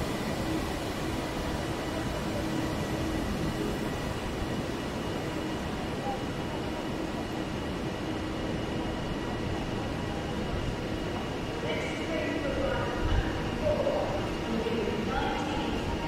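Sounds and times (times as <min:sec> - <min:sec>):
station background noise: 0:00.0 - 0:16.0
train rumbling slowly: 0:00.0 - 0:16.0.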